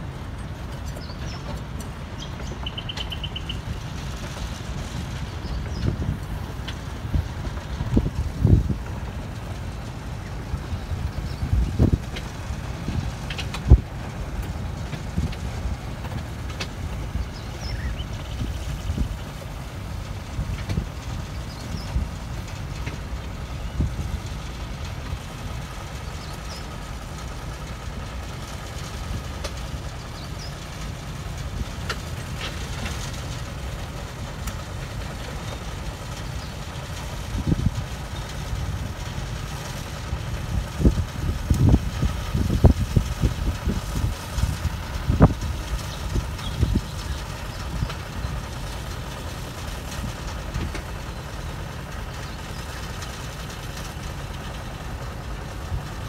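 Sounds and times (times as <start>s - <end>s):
diesel locomotive engine rumble: 0.0s - 56.0s.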